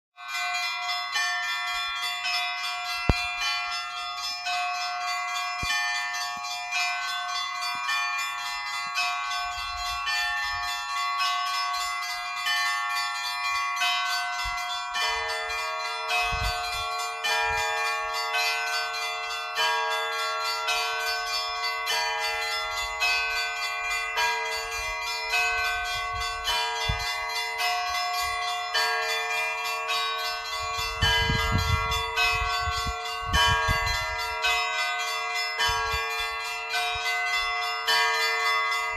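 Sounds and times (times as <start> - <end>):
church bells pealing: 0.2 - 38.9
low-pitched bell: 0.2 - 38.9.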